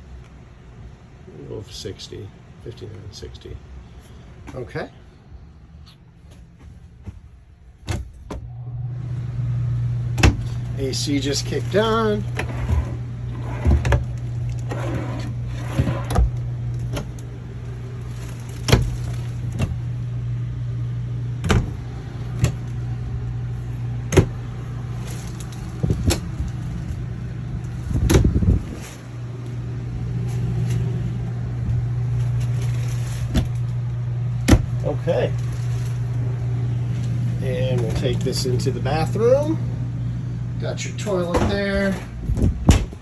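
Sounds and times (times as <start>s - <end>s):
air conditioner humming: 0.0s - 43.0s.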